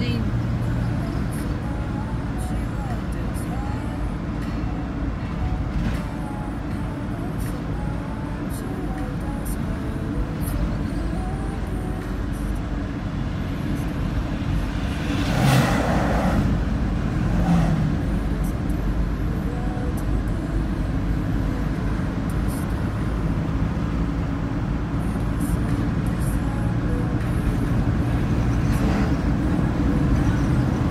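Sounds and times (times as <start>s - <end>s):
car road noise rumble: 0.0s - 30.9s.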